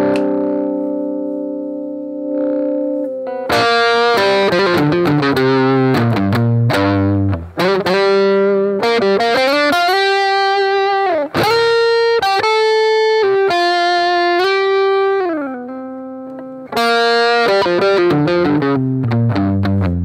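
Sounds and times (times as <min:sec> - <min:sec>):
distorted electric guitar melody: 0:00.0 - 0:20.0.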